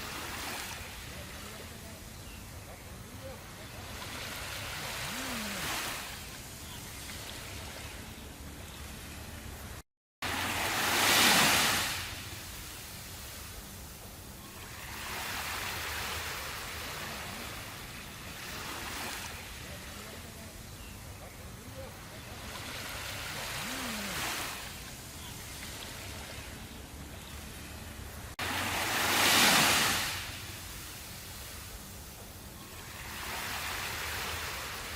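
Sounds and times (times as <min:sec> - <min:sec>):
ocean waves washing in: 0:00.0 - 0:34.9.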